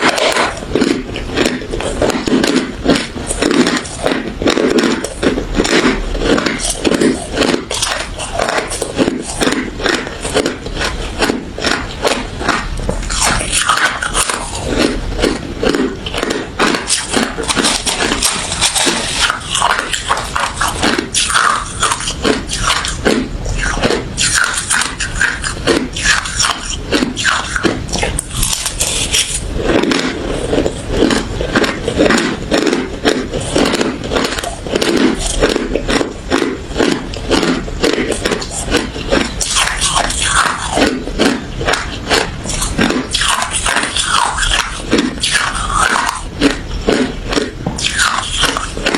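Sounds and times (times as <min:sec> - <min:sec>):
ice being crunched and chewed: 0:00.0 - 0:48.9.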